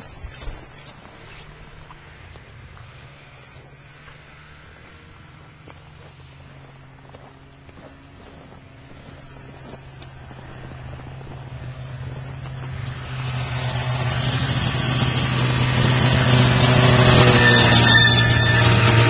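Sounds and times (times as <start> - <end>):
snowmobile engine passing: 0.0 - 19.0.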